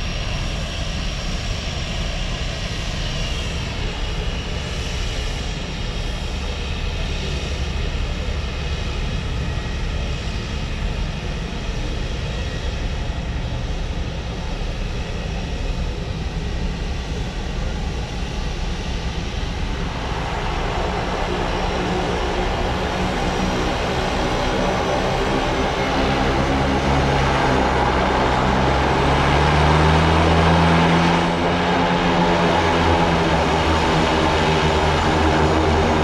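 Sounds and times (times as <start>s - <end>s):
seaplane engine droning: 0.0s - 36.0s.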